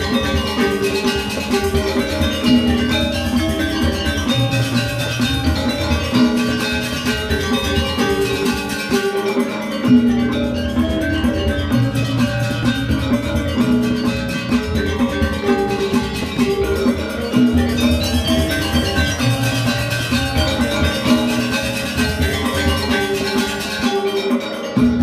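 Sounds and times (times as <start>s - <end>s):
cymbals: 0.0s - 25.0s
hand drum: 0.0s - 25.0s
metallophones interlocking patterns: 0.0s - 25.0s.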